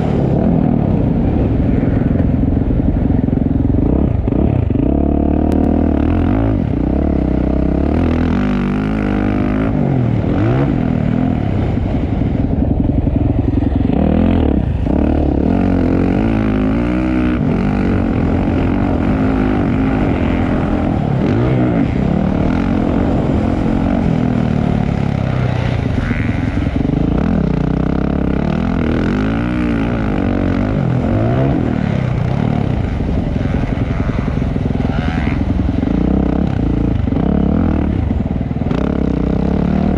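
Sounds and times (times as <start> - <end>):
dirt bike engines racing: 0.0 - 39.9.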